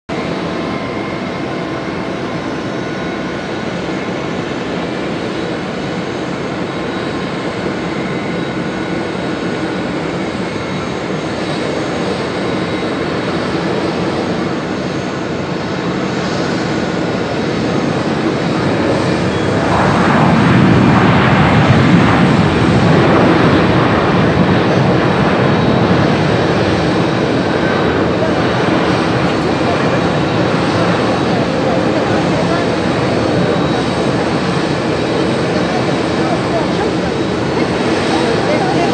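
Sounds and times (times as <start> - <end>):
jet engine reverse thrust rush: 0.1 - 38.9
jet engines hum with whine: 0.1 - 38.9.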